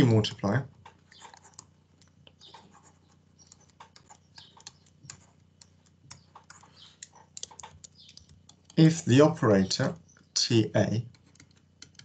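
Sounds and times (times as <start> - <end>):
stylus tapping and scratching tablet: 0.0 - 12.0.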